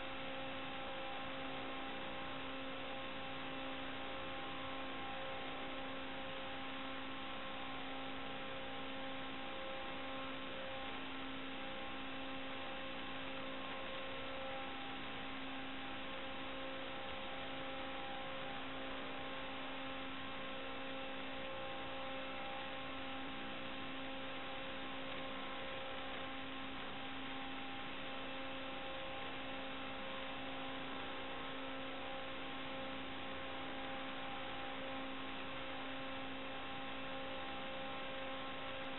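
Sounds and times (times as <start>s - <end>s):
electronic hum with hiss: 0.0s - 38.9s.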